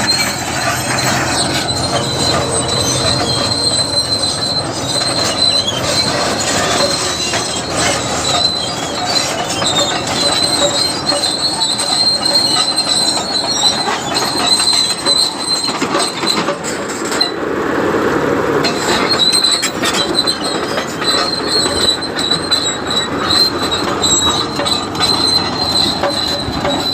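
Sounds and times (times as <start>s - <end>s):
crawler tracks squealing and clanking: 0.0s - 26.9s
diesel engine under load: 0.0s - 26.9s.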